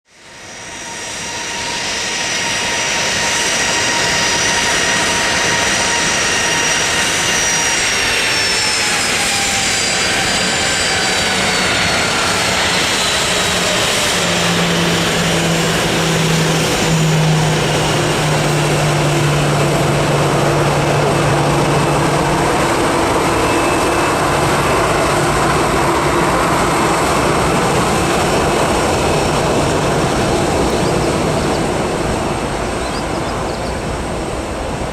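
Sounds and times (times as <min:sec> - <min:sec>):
high turbine whine: 0:00.1 - 0:34.9
jet engines roaring: 0:00.1 - 0:34.9.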